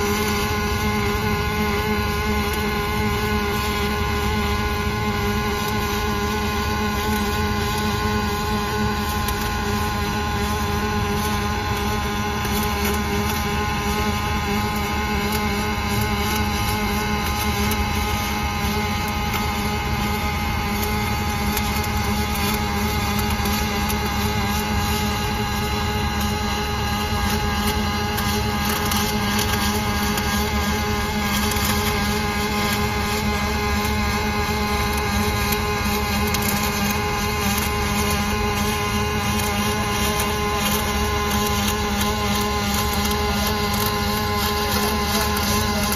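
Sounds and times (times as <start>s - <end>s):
steady hum: 0.0s - 45.9s
welding arc buzzing hiss: 0.0s - 45.9s.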